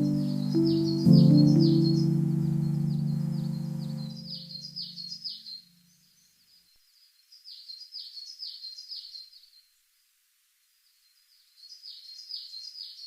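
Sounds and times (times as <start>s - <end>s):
bird chirping: 0.0s - 9.7s, 10.9s - 13.0s.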